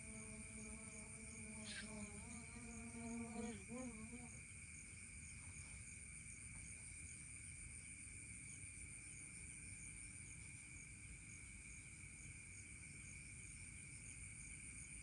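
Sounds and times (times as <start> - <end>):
faint insect chirp: 0.0 - 15.0
insect trills: 0.0 - 15.0.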